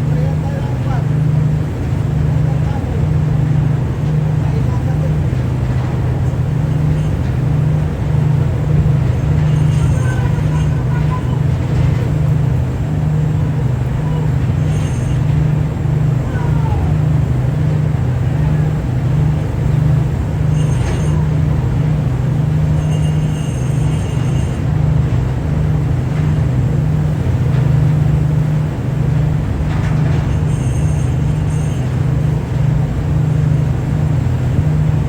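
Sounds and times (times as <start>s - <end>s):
boat engine droning: 0.0s - 35.0s
wind: 0.0s - 35.0s.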